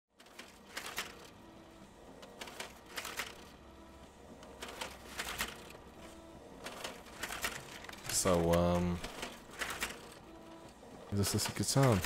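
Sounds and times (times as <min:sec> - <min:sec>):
printer mechanism clattering: 0:00.2 - 0:01.3, 0:02.2 - 0:03.5, 0:04.4 - 0:12.0
printer whirring: 0:00.2 - 0:12.0.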